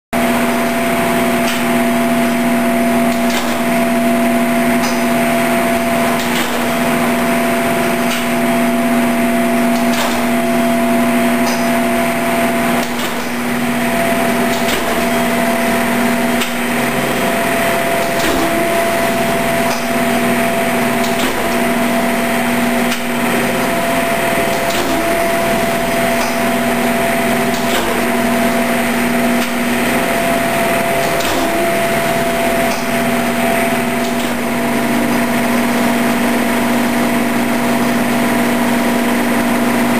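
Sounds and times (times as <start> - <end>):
grinder machine hum: 0.2 - 39.9.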